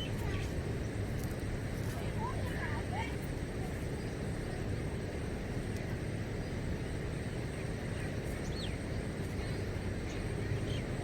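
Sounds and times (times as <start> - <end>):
low rumbling outdoor noise: 0.0 - 11.0.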